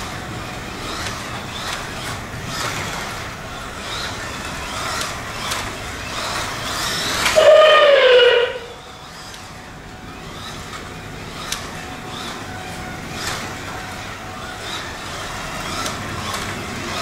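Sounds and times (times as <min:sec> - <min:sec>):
slot car motor whining: 0:00.0 - 0:17.0.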